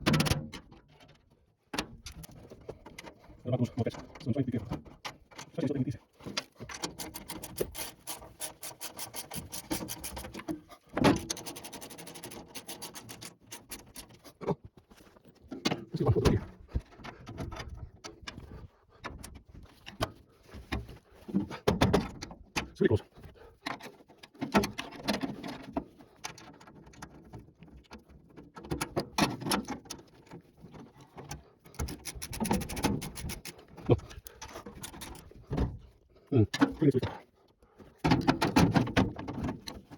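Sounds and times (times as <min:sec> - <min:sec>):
rubbing clicks and knocks: 0:00.0 - 0:39.9.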